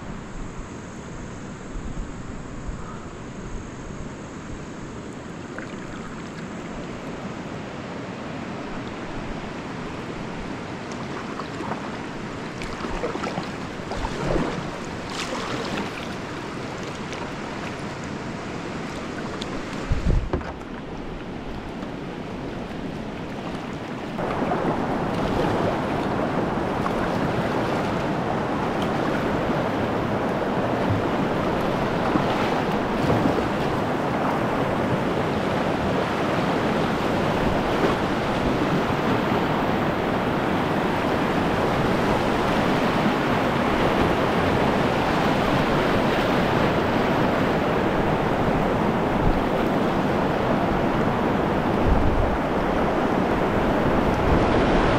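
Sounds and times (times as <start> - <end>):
river water rushing: 4.2 - 54.9.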